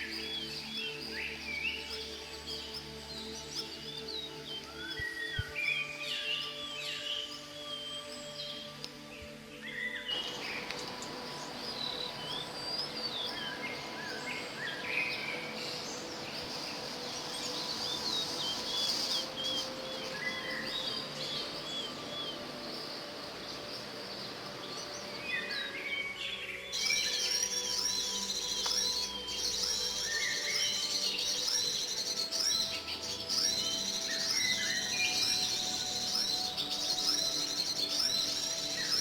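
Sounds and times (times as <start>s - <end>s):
background hiss: 0.0s - 39.0s
birds chirping and singing: 0.0s - 39.0s.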